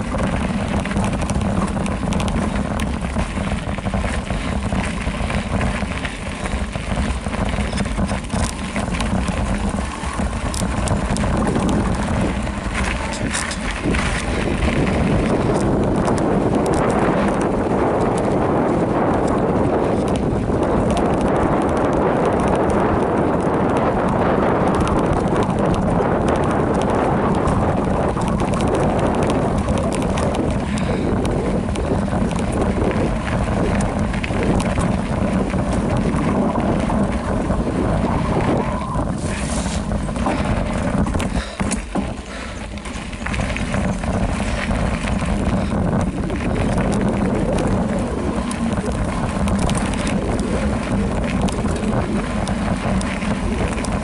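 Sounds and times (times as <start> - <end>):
bike tyres and frame rattling: 0.0 - 54.0
wind buffeting microphone: 0.0 - 54.0.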